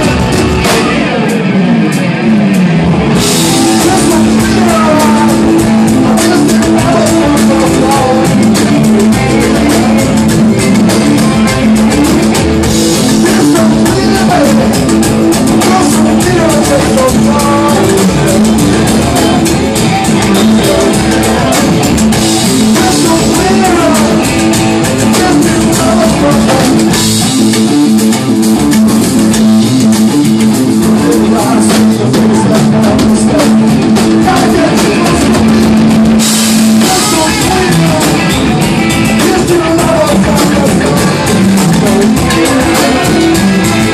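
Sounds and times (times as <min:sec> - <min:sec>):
electric guitar lead bending notes: 0:00.0 - 0:43.9
rock band playing loud: 0:00.0 - 0:43.9.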